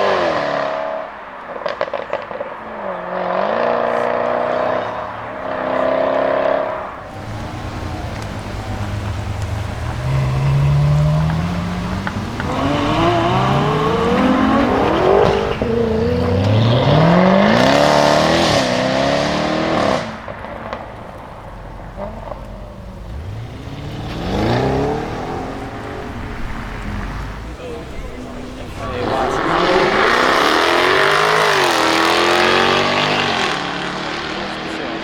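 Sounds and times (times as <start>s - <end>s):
car engine accelerating hard: 0.0s - 35.0s.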